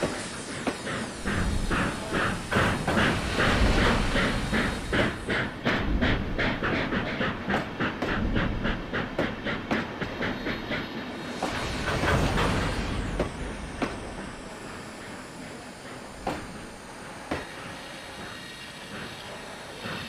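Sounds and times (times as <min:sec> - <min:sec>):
hissing rush: 0:00.0 - 0:20.0
train running: 0:00.0 - 0:20.0.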